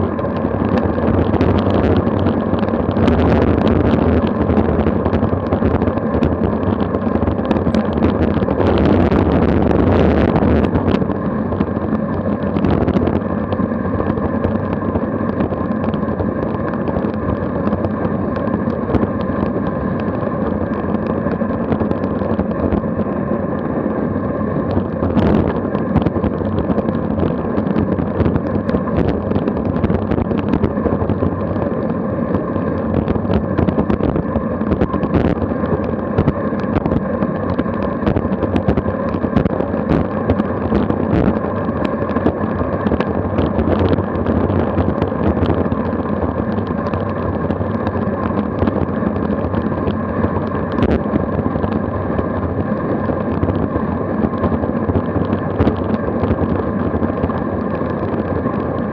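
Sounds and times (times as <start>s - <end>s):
tyre and road noise: 0.0s - 58.9s
wind rushing over microphone: 0.0s - 58.9s.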